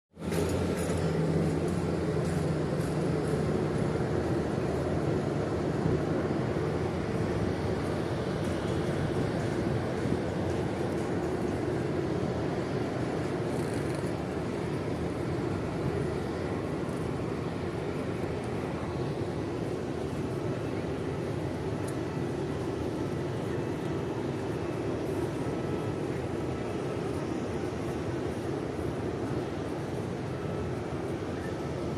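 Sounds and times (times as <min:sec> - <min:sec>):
airliner engine roar in cabin: 0:00.1 - 0:31.9.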